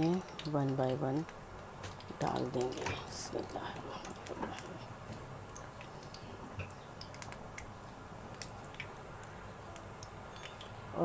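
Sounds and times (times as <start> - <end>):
dough frying with faint sizzle: 0.0 - 11.0.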